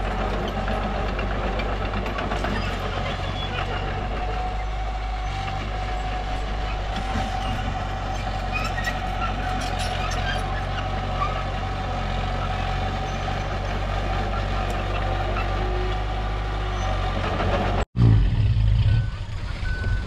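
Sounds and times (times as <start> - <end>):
mini bulldozer engine running: 0.0 - 20.0.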